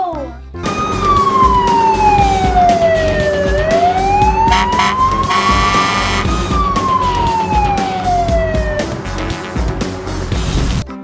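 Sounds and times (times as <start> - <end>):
fire engine siren wailing: 0.6 - 10.8
background music with beat: 0.6 - 11.0
buzzy tone: 0.7 - 10.8.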